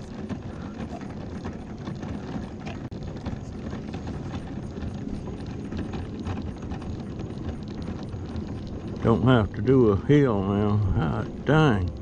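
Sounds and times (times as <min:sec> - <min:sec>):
clicks and rattles: 0:00.0 - 0:12.0
mobility scooter rumbling: 0:00.0 - 0:12.0.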